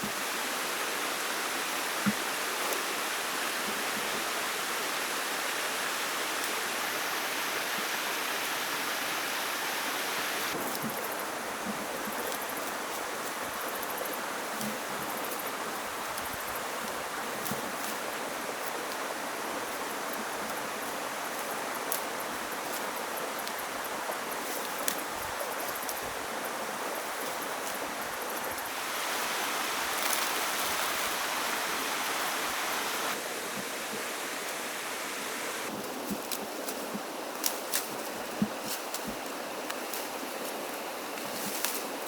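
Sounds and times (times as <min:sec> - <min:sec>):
flowing water rushing: 0:00.0 - 0:41.2.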